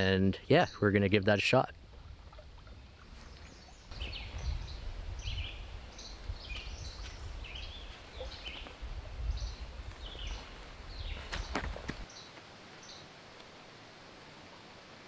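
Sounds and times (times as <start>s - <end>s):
birds chirping: 0.0s - 13.1s.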